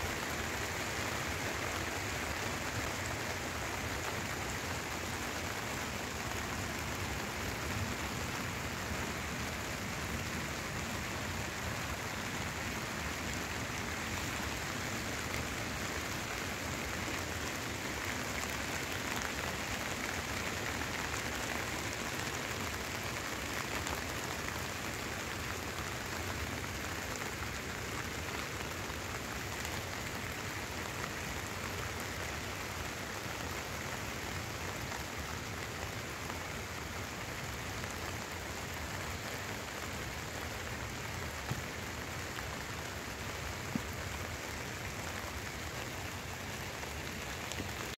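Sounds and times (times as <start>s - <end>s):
rain on a tarp: 0.0s - 47.9s.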